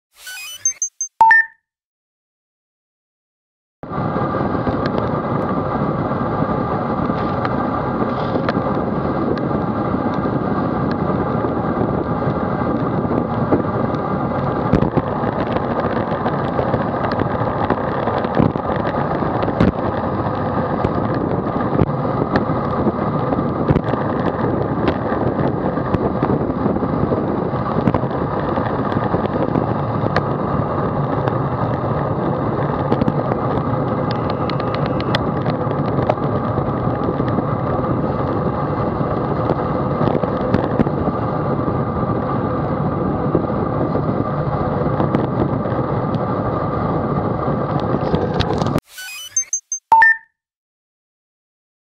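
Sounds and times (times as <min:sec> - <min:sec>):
wind over microphone: 0:03.8 - 0:48.8.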